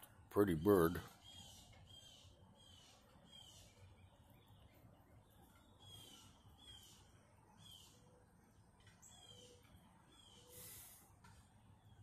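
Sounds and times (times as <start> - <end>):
faint bird chirps: 0.5 - 12.0.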